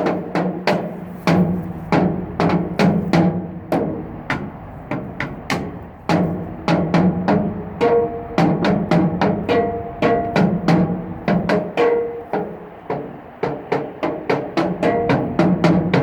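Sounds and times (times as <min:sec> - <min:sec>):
sticks drumming on metal: 0:00.0 - 0:16.0.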